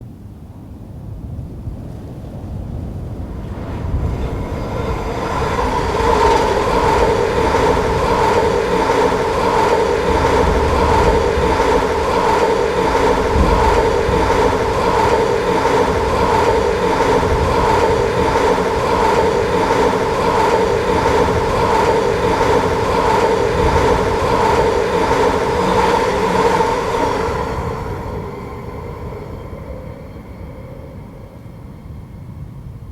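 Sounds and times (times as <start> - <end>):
train passing on rails: 1.9 - 32.9.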